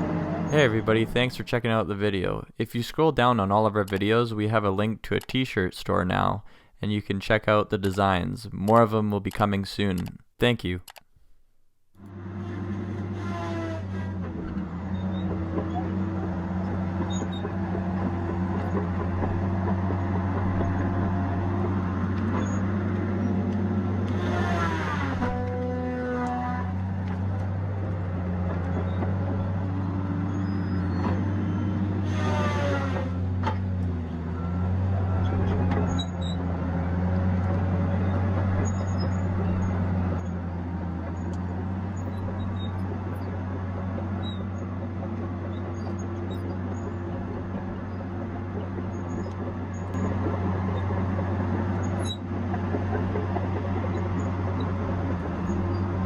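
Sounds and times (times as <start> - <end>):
diesel engine under load: 0.0 - 10.0, 12.0 - 56.0.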